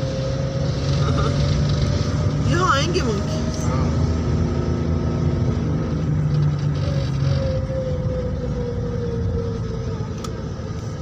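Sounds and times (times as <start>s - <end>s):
car engine from inside cabin: 0.0s - 11.0s
road noise: 0.0s - 11.0s.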